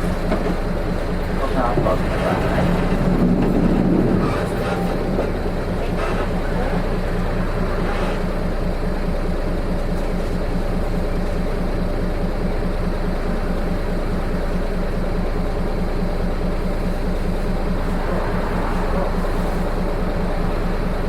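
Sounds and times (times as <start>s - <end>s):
diesel bus engine throbbing: 0.0s - 21.0s.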